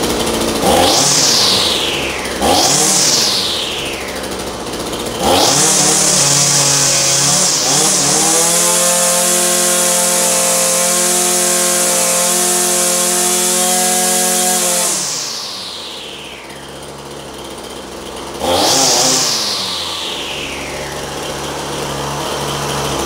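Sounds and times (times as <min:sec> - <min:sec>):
string trimmer engine revving: 0:00.0 - 0:23.0.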